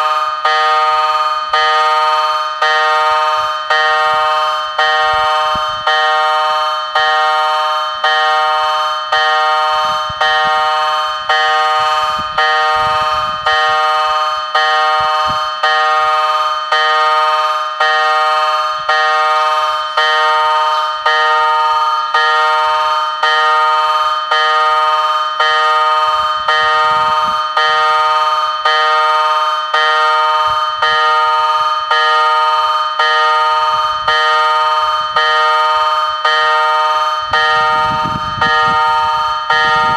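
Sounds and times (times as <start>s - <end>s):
level-crossing warning bell ringing: 0.0s - 39.9s.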